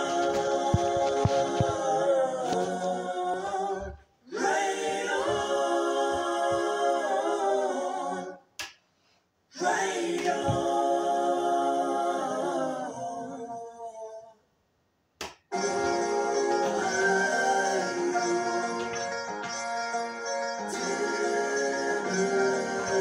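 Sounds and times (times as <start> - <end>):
a cappella choir chord: 0.0 - 8.5, 9.6 - 13.8, 15.5 - 19.4, 20.6 - 23.0.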